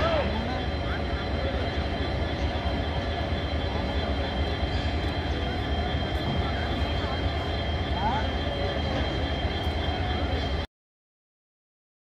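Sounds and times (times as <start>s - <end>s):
train wheels rumbling on rails: 0.0s - 10.7s.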